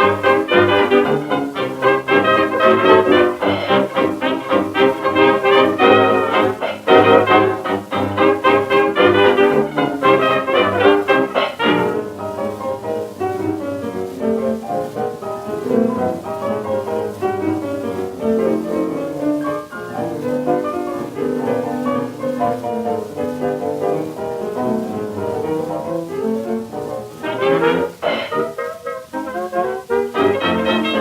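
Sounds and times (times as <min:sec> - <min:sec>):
hot jazz dance band on a record: 0:00.0 - 0:31.0.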